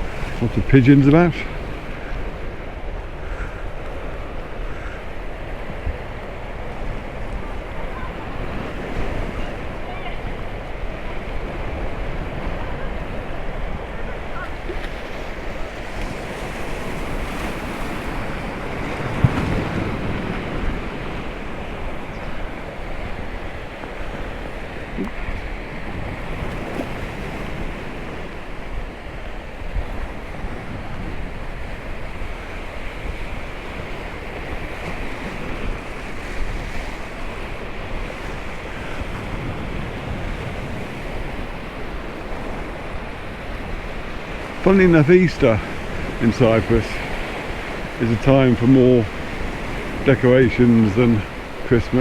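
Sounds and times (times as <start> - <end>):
sea surf: 0.0 - 52.0
wind buffeting the microphone: 0.0 - 52.0.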